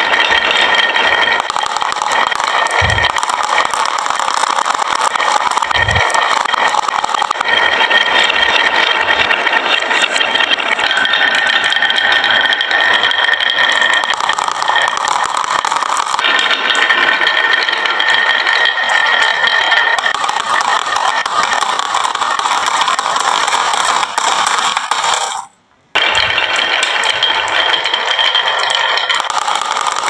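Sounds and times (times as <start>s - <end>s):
marbles rattling down tracks: 0.0s - 30.0s
ringing hum of rolling: 0.0s - 30.0s.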